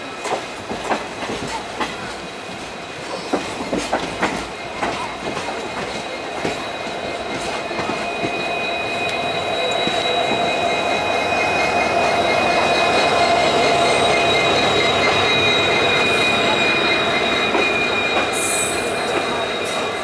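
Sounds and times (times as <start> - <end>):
diesel locomotive drone and whine: 0.0 - 20.0
train wheels clacking over rail joints: 0.2 - 20.0.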